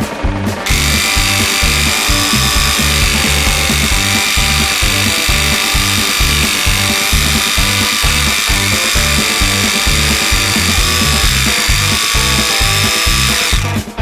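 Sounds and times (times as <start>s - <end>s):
scroll saw cutting wood: 0.6s - 13.9s.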